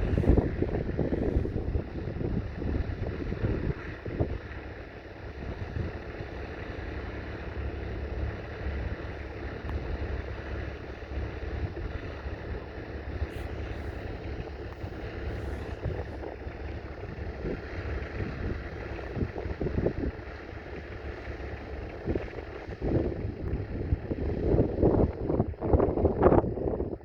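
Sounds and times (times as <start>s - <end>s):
diesel engine running: 0.0s - 27.0s
wind buffeting microphone: 0.0s - 27.0s.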